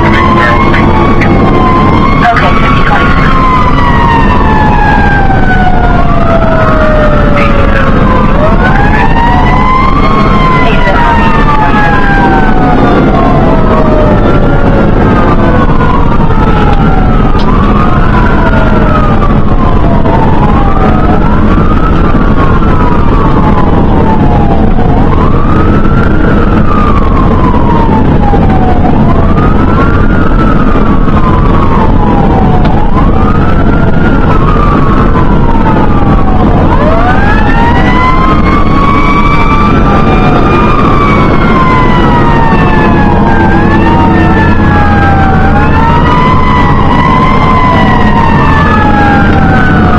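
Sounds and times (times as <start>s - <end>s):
fire engine siren wailing: 0.0s - 49.9s
second siren with higher sweeps: 0.0s - 49.9s
truck engine drone: 0.0s - 49.9s.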